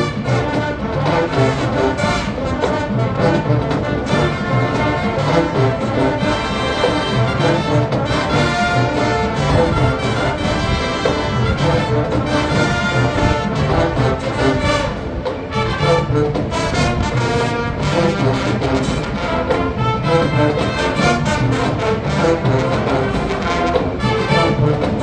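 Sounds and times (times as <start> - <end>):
marching band brass: 0.0 - 25.0
percussion hits: 0.0 - 25.0.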